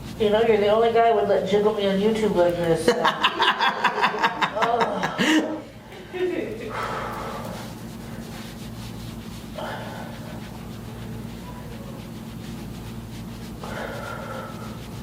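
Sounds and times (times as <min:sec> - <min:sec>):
vibration massager humming: 0:00.0 - 0:15.0.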